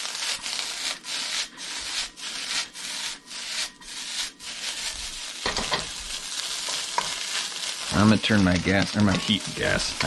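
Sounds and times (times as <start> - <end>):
chopsticks scraping a pan: 0.0 - 10.0
rice sizzling in a pan: 0.0 - 10.0.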